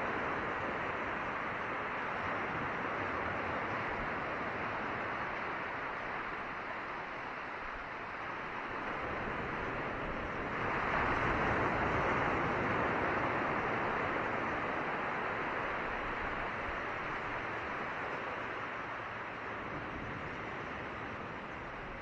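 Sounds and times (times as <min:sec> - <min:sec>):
waves washing over rocky shore: 0:00.1 - 0:22.0.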